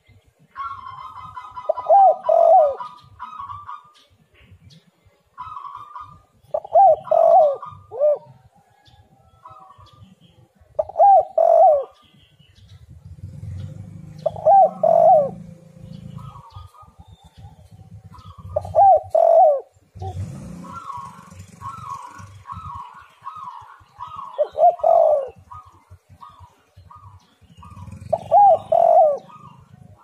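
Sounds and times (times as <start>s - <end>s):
dove cooing: 0.4s - 30.0s.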